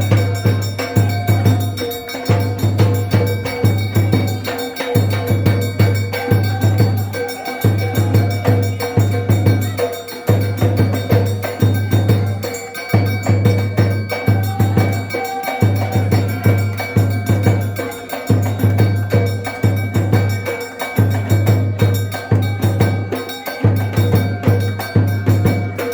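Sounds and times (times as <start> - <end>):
deep drum beats: 0.0 - 25.9
frame drums beaten fast: 0.0 - 25.9.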